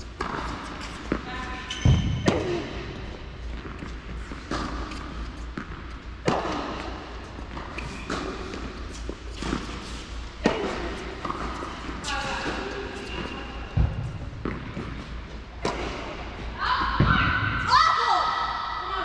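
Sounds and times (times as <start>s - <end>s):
tennis ball bouncing: 0.0s - 17.3s
rackets striking tennis ball: 0.0s - 17.7s.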